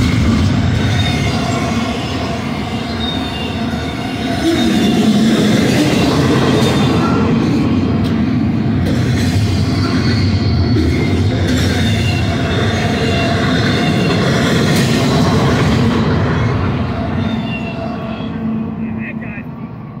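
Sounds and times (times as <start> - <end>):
high wheel squeal: 0.0 - 7.9, 9.4 - 19.0
train wheels rumbling on rails: 0.0 - 20.0.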